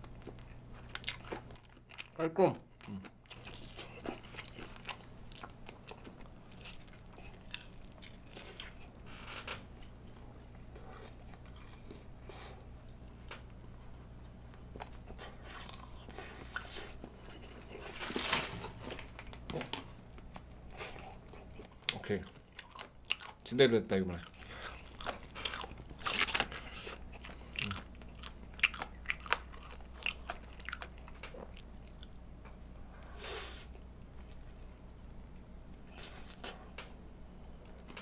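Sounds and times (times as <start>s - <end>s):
chewing crunchy fried chicken: 0.0s - 32.3s.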